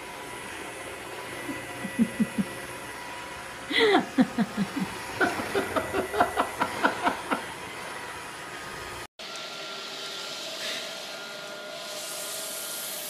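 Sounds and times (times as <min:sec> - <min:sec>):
robot vacuum humming: 0:00.0 - 0:13.0.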